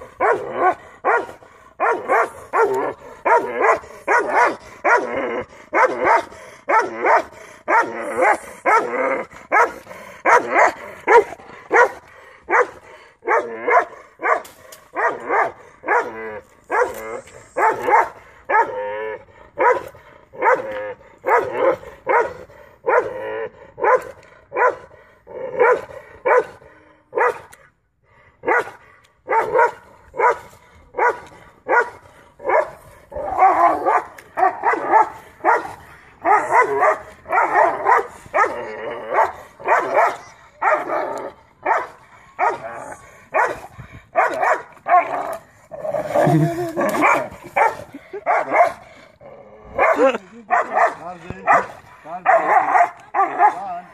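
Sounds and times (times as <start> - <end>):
dog barking: 0.0 - 17.0, 17.6 - 18.8, 19.6 - 23.2, 23.8 - 24.9, 25.5 - 27.6, 28.4 - 41.0, 41.6 - 42.7, 43.3 - 45.4, 46.8 - 48.8, 49.8 - 53.8.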